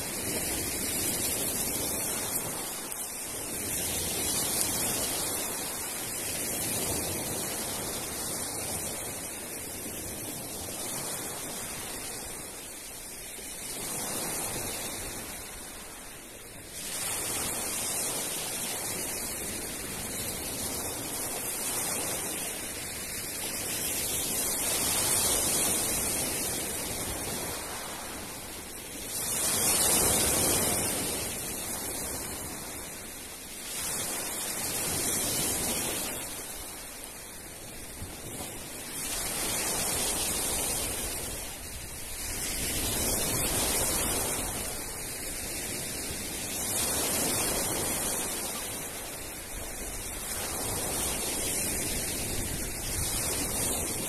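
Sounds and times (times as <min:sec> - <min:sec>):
waves washing over pebbles: 0:00.0 - 0:54.0.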